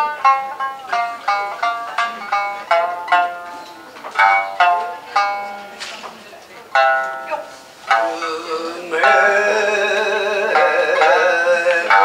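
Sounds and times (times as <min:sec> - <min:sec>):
plucked shamisen notes: 0:00.0 - 0:12.0.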